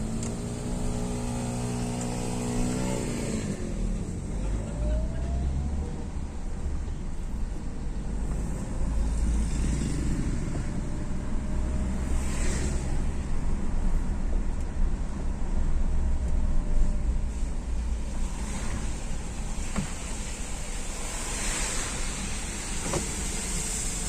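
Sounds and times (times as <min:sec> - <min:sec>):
road noise rumble: 0:00.0 - 0:24.0.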